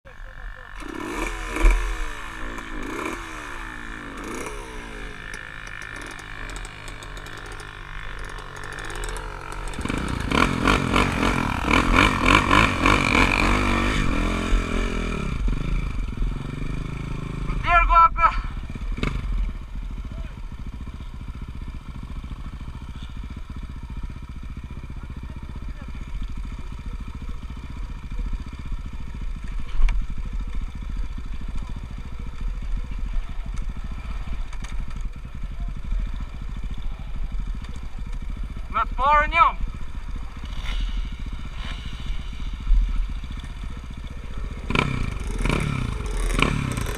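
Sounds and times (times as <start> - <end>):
motocross bike engines revving: 0.1 - 46.9.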